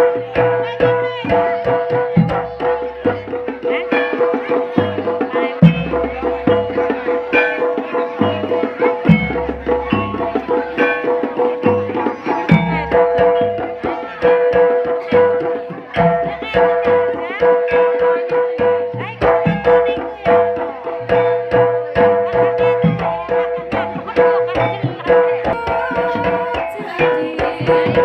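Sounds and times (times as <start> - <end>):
hand drums beating fast: 0.0 - 28.0
held melodic tones: 0.0 - 28.0.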